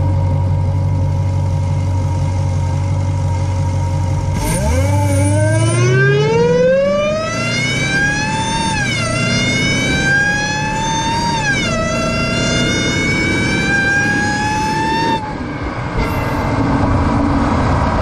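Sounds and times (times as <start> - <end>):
supercharger whine: 0.0 - 18.0
car engine accelerating hard: 1.2 - 18.0.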